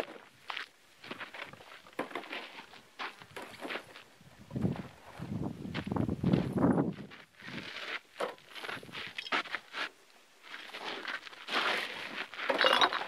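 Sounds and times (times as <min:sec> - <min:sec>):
boots crunching on gravel: 0:00.0 - 0:13.0.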